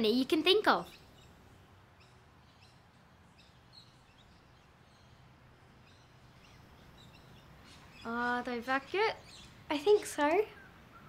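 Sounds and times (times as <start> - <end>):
faint bird chirps: 0.8 - 11.0.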